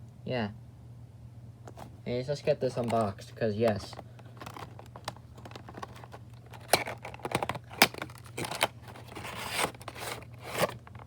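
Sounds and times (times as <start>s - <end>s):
packaging clicks and rustles: 1.7s - 11.0s.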